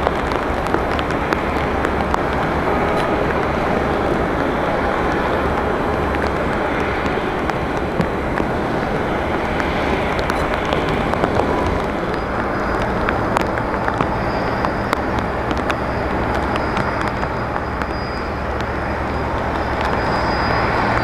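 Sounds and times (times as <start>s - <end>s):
distant jet engines: 0.0s - 21.0s
rain rushing: 0.0s - 21.0s
raindrop ticks: 0.0s - 21.0s.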